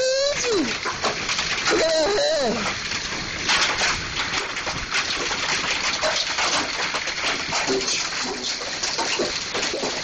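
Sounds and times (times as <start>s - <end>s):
heavy rain hissing: 0.0s - 10.0s
hailstones clattering on hard surfaces: 0.2s - 10.0s.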